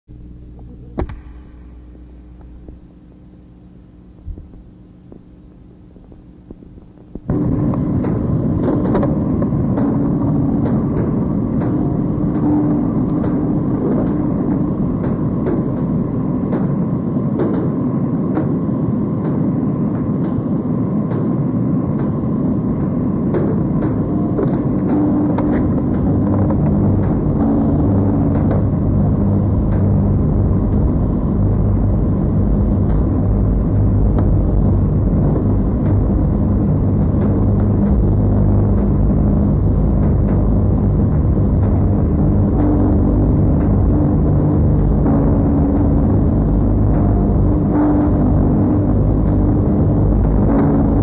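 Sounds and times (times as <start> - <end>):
low hum: 0.0 - 51.0
loud distorted rumble: 0.1 - 51.0.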